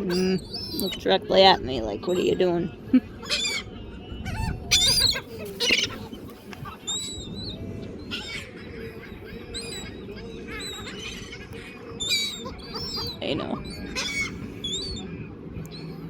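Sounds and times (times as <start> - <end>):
gulls calling: 0.0 - 16.0
low background rush: 0.0 - 16.0.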